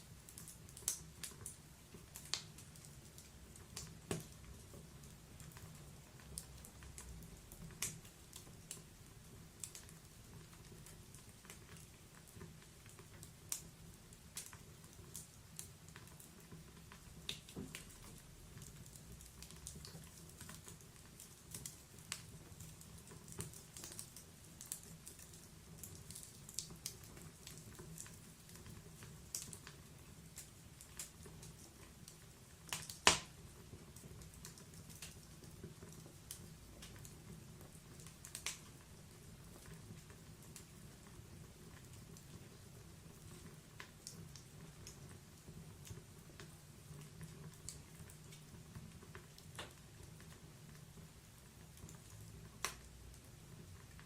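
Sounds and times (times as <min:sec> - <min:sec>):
wood fire crackles and pops: 0:00.0 - 0:54.0.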